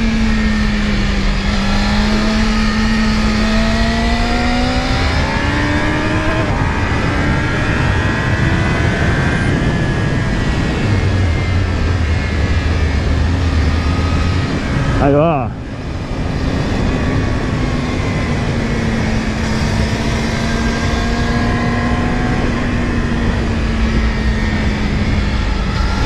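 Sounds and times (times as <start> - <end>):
motorcycle engine accelerating: 0.0 - 26.0
wind noise: 0.0 - 26.0.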